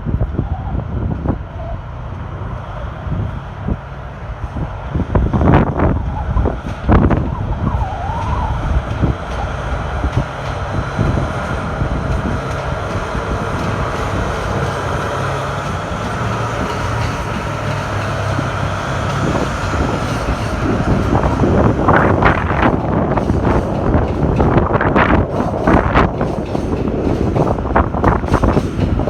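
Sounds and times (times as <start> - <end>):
freight train passing: 0.0 - 29.0
wind buffeting microphone: 0.0 - 29.0.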